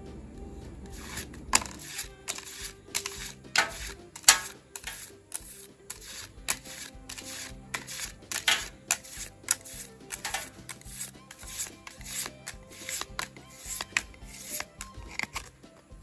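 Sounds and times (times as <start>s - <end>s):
background music: 0.0s - 16.0s
cards flicking papery snaps: 0.9s - 15.8s.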